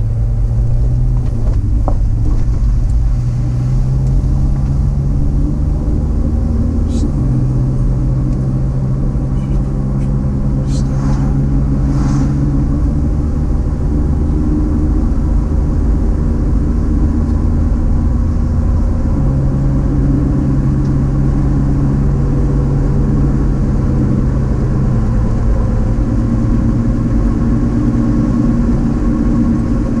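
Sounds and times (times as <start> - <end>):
car engine humming: 0.0 - 30.0
road noise: 0.0 - 30.0.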